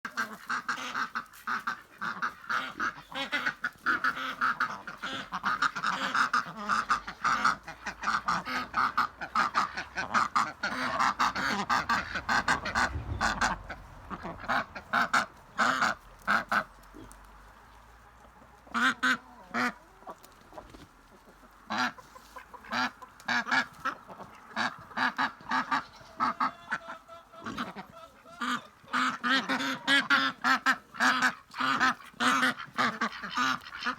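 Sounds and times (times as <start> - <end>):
ducks quacking: 0.0 - 33.9.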